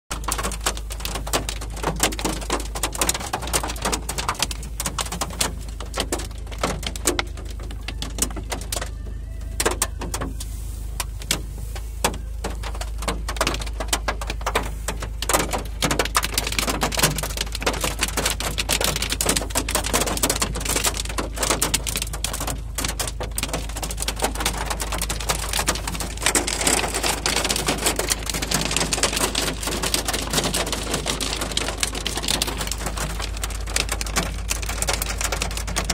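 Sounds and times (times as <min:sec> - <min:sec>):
hail hitting car roof: 0:00.1 - 0:35.9.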